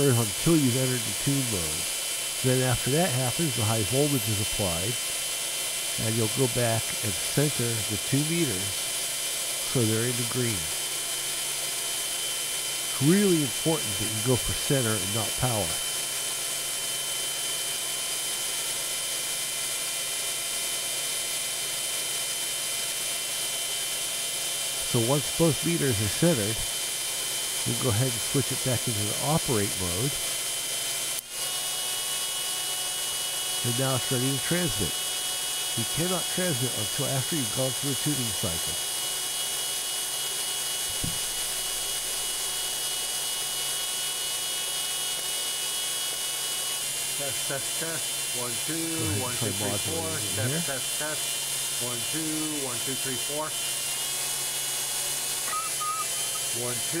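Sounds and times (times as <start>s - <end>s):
cooling fan running: 0.0s - 57.0s.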